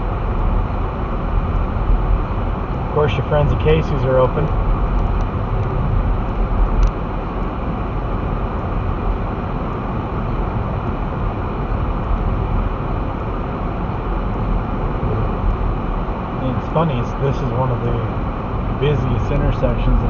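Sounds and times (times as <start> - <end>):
engine and road rumble in car: 0.0 - 20.0.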